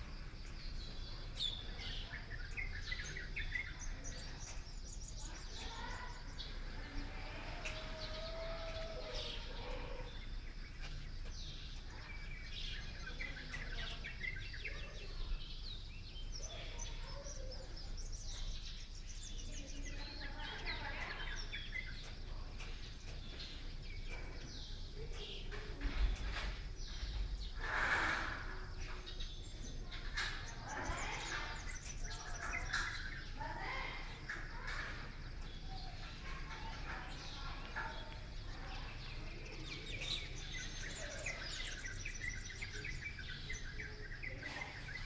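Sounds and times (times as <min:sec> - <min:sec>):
small birds chirping and trilling: 0:00.0 - 0:45.0.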